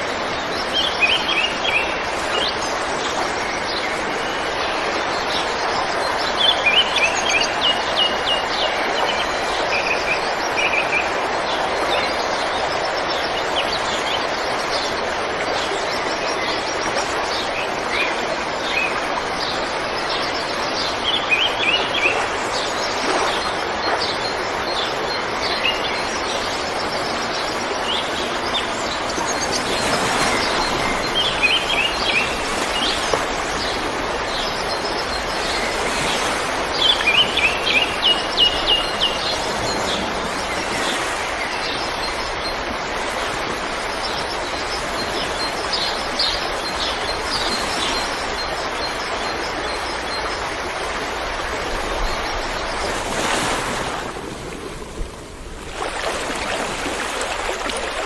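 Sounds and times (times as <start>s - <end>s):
birds chirping: 0.0s - 55.5s
river water flowing: 0.0s - 58.0s.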